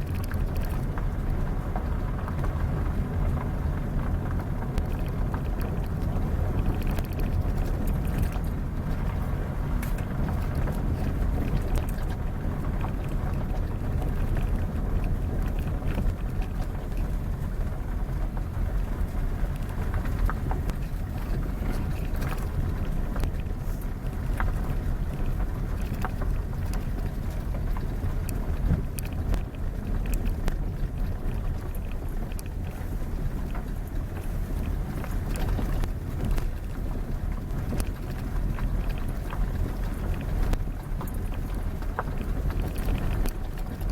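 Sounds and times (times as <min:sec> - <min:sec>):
faint clicks and rattles: 0:00.0 - 0:43.9
vehicle rumble: 0:00.0 - 0:43.9
wind buffeting microphone: 0:00.0 - 0:43.9.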